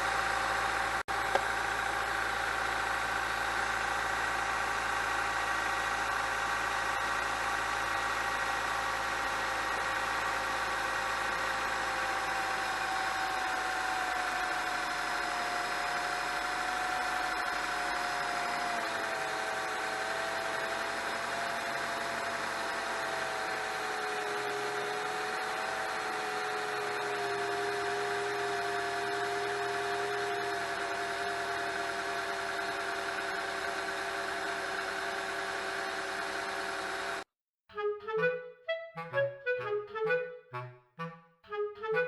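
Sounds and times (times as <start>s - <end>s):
car engine idling: 0.0s - 37.3s.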